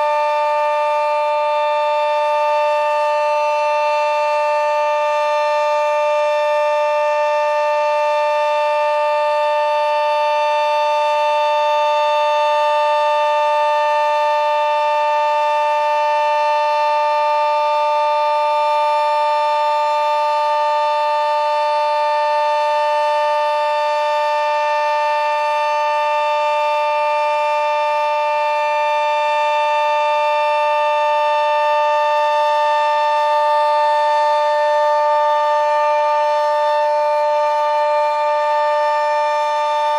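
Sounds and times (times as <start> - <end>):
two-tone siren steady tone: 0.0 - 39.9.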